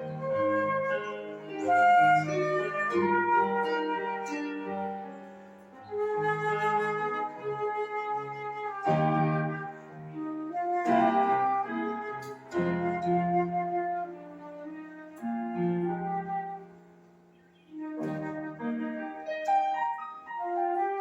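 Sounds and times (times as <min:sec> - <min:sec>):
flute playing slow melody: 0:00.0 - 0:21.0.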